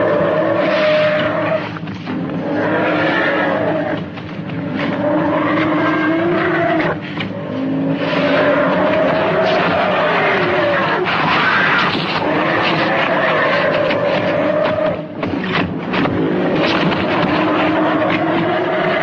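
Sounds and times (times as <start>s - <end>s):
dinosaur roars: 0.0s - 15.2s, 16.0s - 19.0s.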